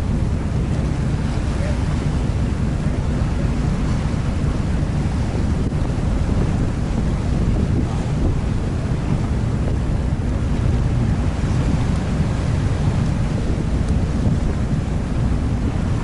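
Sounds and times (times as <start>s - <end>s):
water washing under boat: 0.0s - 16.0s
wind over microphone: 0.0s - 16.0s.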